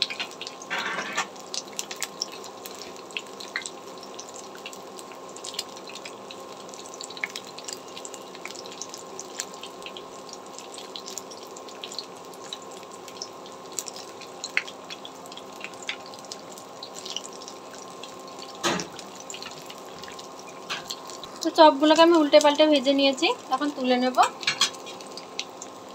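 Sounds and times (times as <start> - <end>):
fritters sizzling in hot oil: 0.0 - 25.9.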